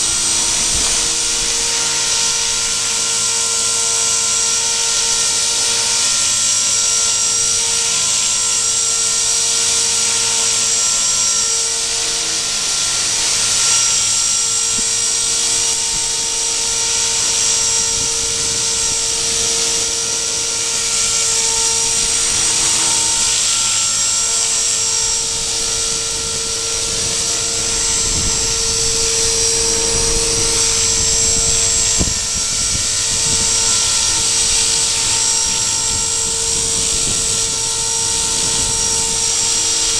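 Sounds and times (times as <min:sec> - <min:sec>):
wind buffeting microphone: 0:00.0 - 0:03.5, 0:09.8 - 0:39.9
model helicopter whine: 0:00.0 - 0:39.9.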